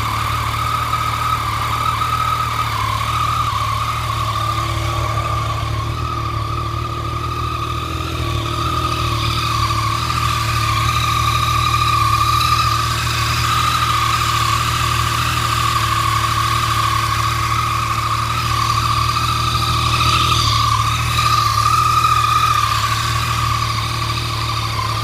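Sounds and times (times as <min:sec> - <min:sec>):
high-pitched engine whine: 0:00.0 - 0:25.0
motorcycle engine idling: 0:00.0 - 0:25.0.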